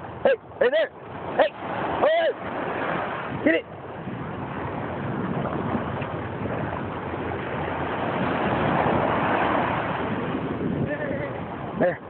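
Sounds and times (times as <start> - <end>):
ocean surf: 0.0 - 12.0
wind on microphone: 0.0 - 12.0.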